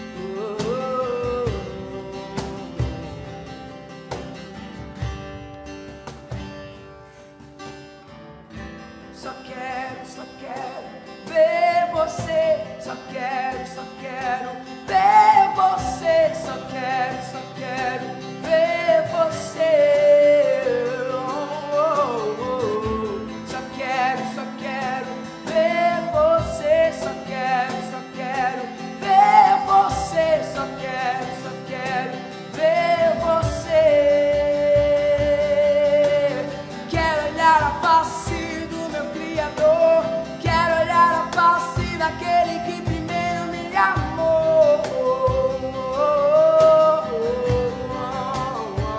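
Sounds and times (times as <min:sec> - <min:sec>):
man singing: 0:00.0 - 0:04.4, 0:09.0 - 0:48.9
cajon drumming: 0:00.0 - 0:48.9
strummed acoustic guitar: 0:00.0 - 0:48.9.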